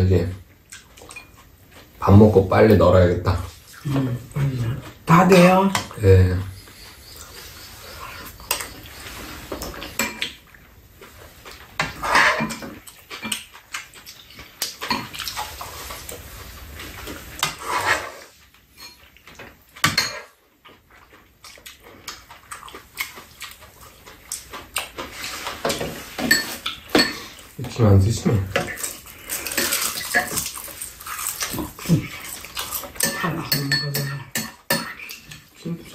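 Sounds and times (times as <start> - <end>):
people chewing and slurping: 0.5 - 35.9.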